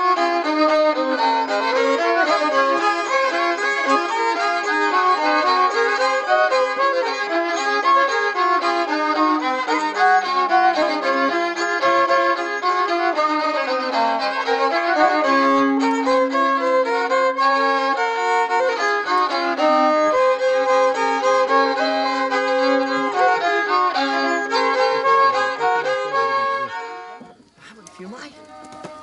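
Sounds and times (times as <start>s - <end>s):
fiddle music: 0.0s - 29.0s.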